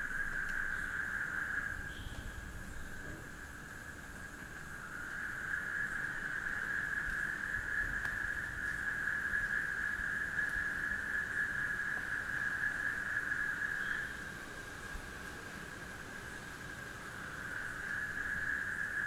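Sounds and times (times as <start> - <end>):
frogs and crickets chorus: 0.0 - 19.0.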